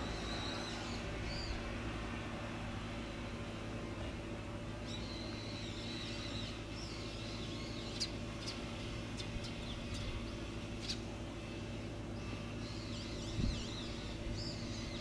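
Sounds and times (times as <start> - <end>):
small birds chirping: 0.0 - 1.7, 4.6 - 15.0
low steady hum: 0.0 - 15.0.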